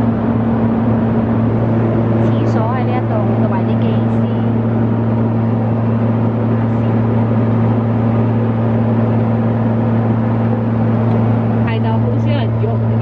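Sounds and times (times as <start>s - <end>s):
constant rushing noise: 0.0s - 13.0s
propeller plane cabin drone: 0.0s - 13.0s.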